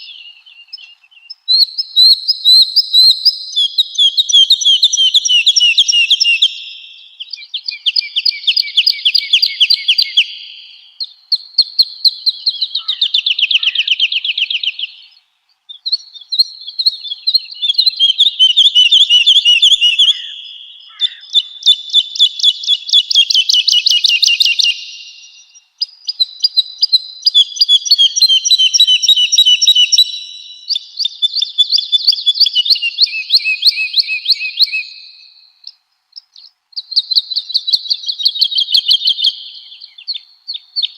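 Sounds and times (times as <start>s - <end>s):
woodlark singing: 0.0s - 40.9s.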